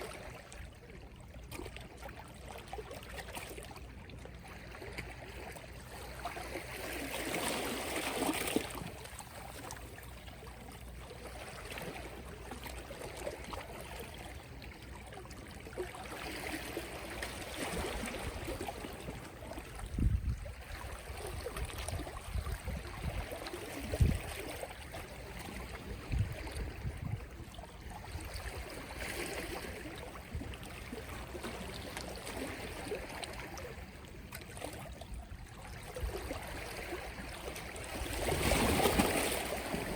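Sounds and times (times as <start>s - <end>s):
sea waves lapping at shore: 0.0s - 39.9s.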